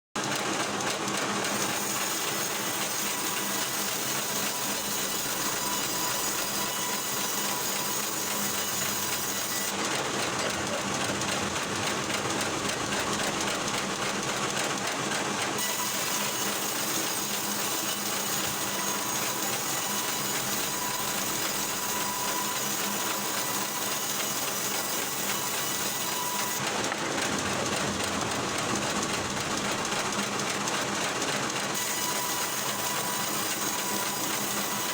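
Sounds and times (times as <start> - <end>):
band sawmill cutting logs: 0.2 - 34.9.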